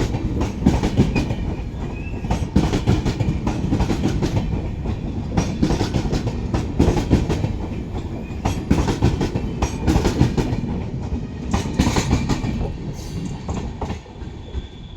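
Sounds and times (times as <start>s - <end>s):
train wheels clattering over rail joints: 0.0s - 14.7s.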